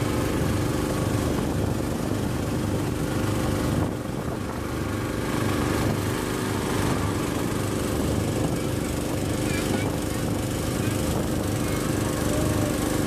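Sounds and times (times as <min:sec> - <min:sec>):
motorboat engine running: 0:00.0 - 0:13.0
water rushing past hull: 0:00.0 - 0:13.0.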